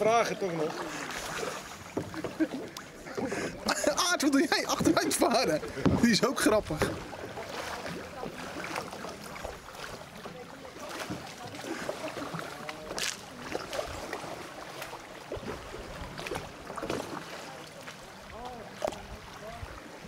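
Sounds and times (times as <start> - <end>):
kayak paddles splashing water: 0.0 - 20.0.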